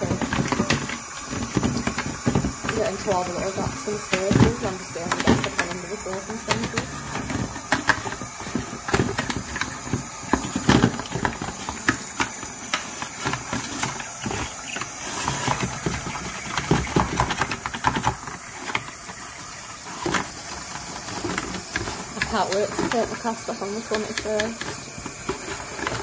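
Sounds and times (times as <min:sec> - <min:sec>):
running tap hiss: 0:00.0 - 0:26.0
toothbrush scrubbing plastic: 0:00.0 - 0:26.0.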